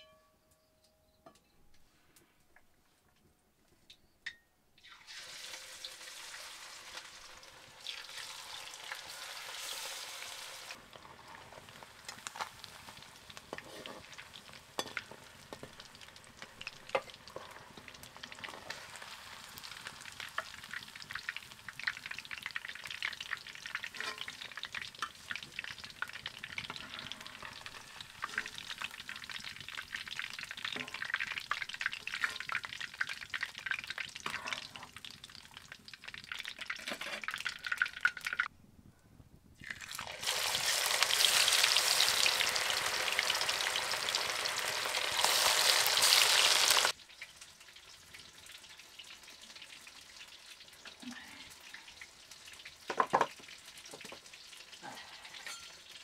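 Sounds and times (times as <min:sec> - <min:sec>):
fish deep-frying in oil: 0:04.8 - 0:38.5, 0:39.6 - 0:56.0.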